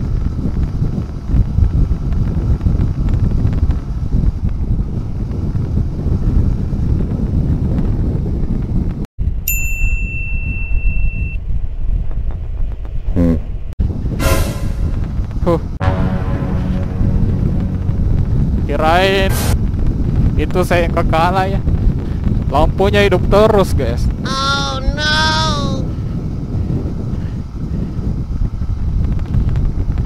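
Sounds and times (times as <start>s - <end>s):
motorcycle rumble: 0.0s - 9.4s, 11.4s - 22.5s, 25.9s - 30.0s
wind buffeting microphone: 0.0s - 30.0s.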